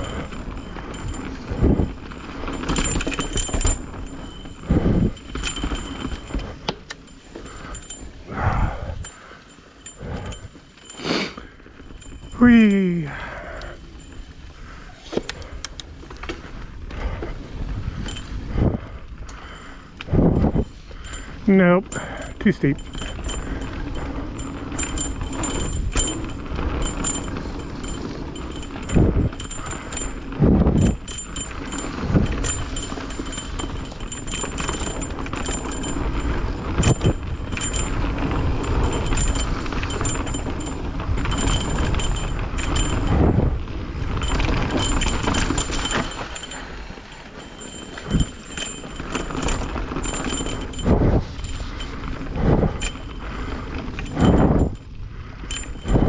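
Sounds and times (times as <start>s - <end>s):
wheels knocking on roots and rocks: 0.0s - 13.0s, 13.6s - 18.5s, 19.2s - 56.0s
bike tyre and drivetrain rattle: 0.0s - 56.0s
wind noise: 0.0s - 56.0s.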